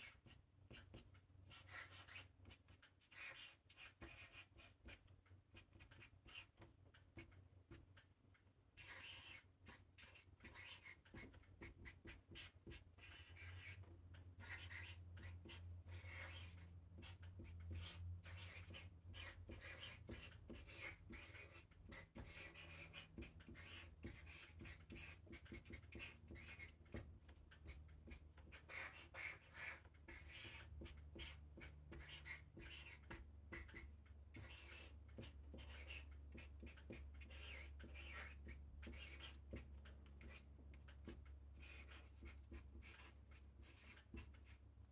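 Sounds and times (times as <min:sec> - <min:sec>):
marker scratching on paper: 0:00.0 - 0:08.1, 0:08.8 - 0:44.9.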